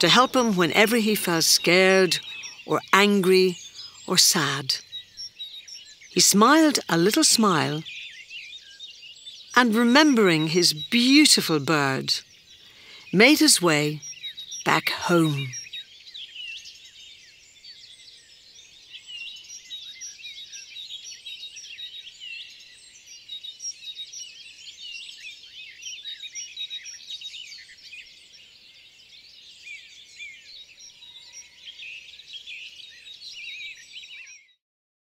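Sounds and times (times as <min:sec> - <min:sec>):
chorus of birds chirping: 0:00.0 - 0:34.6.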